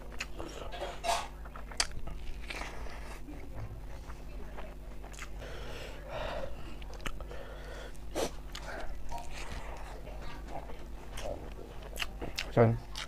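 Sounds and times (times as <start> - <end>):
man chewing rice: 0.0 - 13.0.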